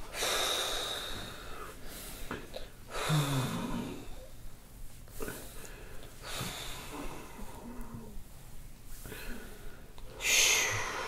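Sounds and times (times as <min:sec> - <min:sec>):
man breathing hard: 0:00.0 - 0:04.3, 0:05.2 - 0:08.1, 0:09.0 - 0:11.0.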